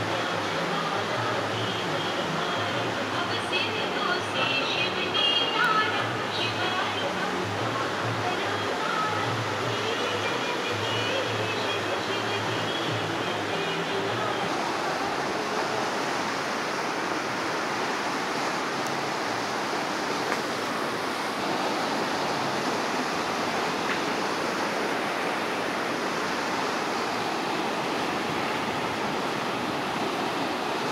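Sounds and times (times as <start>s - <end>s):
river rapids rushing over rocks: 0.0s - 30.9s.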